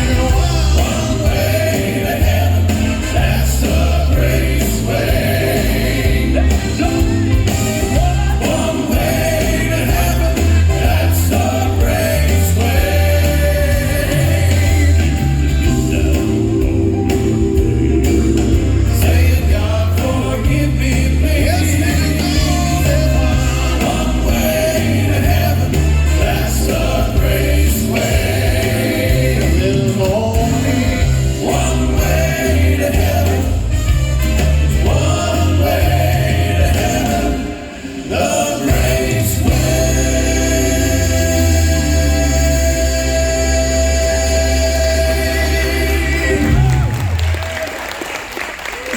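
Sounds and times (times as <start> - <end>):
vocal quartet singing in harmony: 0.0 - 47.0
bass line: 0.0 - 47.3
band backing: 0.0 - 48.9.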